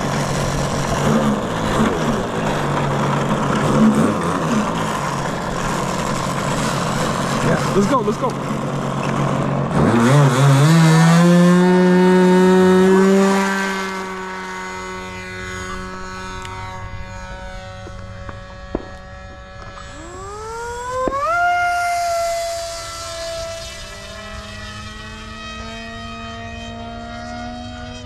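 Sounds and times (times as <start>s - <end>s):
model airplane motor whining: 0.0s - 28.0s.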